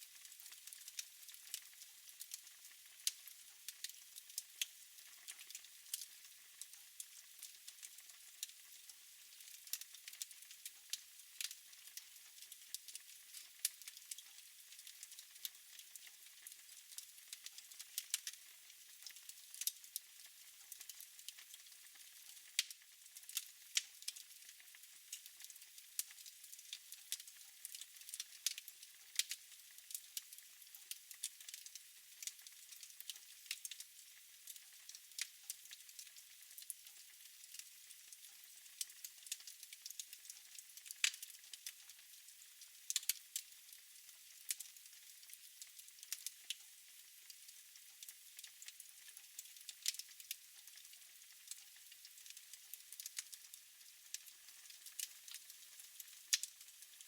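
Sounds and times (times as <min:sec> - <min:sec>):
faint steady hiss: 0:00.0 - 0:57.0
wood fire crackling: 0:00.2 - 0:08.5, 0:09.4 - 0:10.6, 0:11.2 - 0:18.4, 0:19.0 - 0:20.0, 0:20.7 - 0:33.8, 0:34.4 - 0:36.7, 0:37.4 - 0:38.0, 0:38.6 - 0:41.9, 0:42.8 - 0:43.8, 0:44.4 - 0:46.3, 0:48.0 - 0:53.3, 0:54.1 - 0:57.0.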